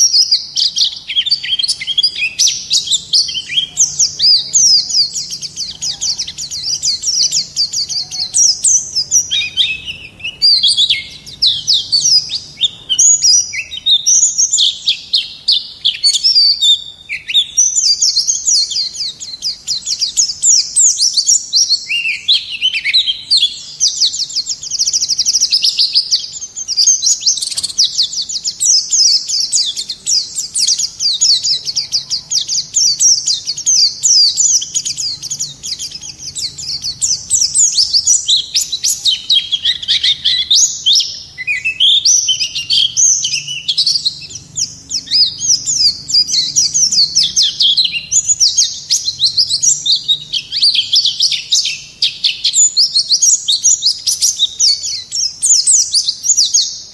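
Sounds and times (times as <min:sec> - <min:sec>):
bird warbling rapid high chirps: 0:00.0 - 0:56.9.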